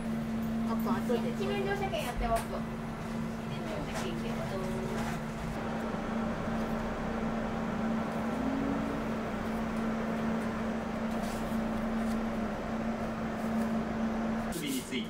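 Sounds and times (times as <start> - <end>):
electric train running hum: 0.0 - 15.0.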